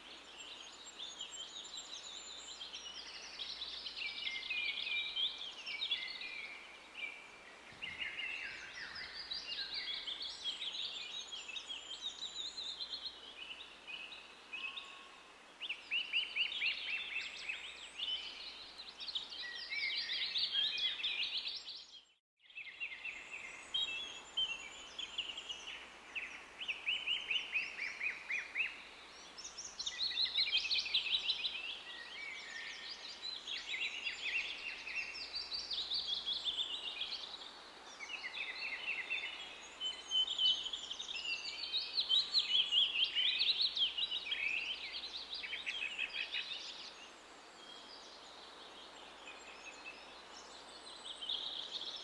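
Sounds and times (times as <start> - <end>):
songbirds chirping and trilling: 0.0 - 52.0.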